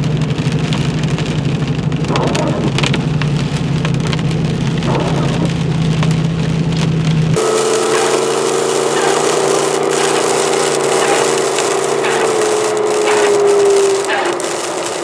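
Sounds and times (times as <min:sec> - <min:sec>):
engine humming: 0:00.0 - 0:15.0
heavy rain on a vehicle: 0:00.0 - 0:15.0.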